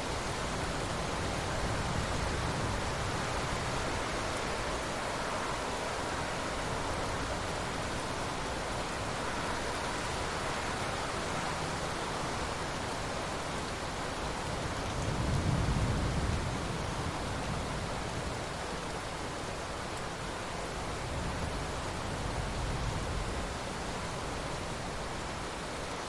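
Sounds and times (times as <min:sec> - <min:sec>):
rain falling on water: 0:00.0 - 0:26.0.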